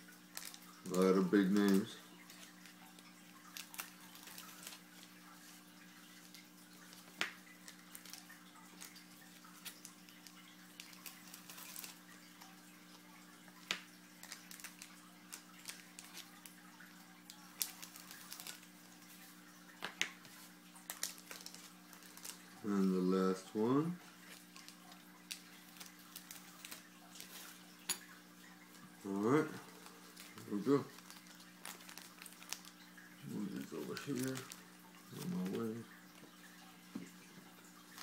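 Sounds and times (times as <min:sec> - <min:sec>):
low electrical hum: 0:00.0 - 0:38.0
cards rustling and clicking: 0:00.3 - 0:16.6, 0:17.3 - 0:22.7, 0:24.1 - 0:36.3.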